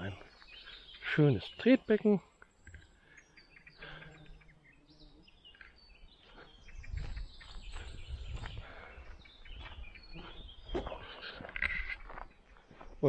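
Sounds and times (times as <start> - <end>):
songbirds chirping and whistling: 0.0 - 13.0.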